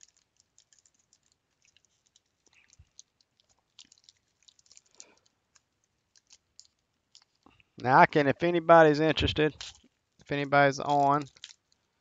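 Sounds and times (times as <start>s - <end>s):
plastic sleeve and wrapper crackling: 0.0s - 7.8s, 9.3s - 12.0s.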